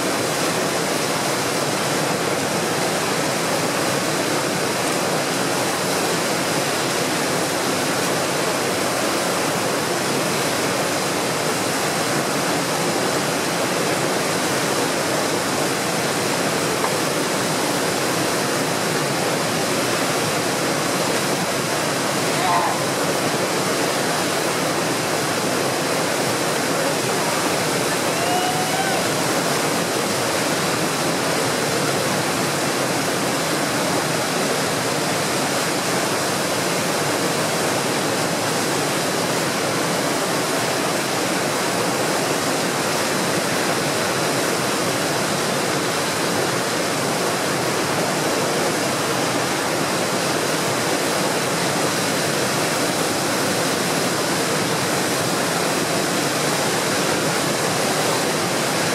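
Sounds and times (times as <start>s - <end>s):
whitewater rushing over rapids: 0.0s - 58.9s.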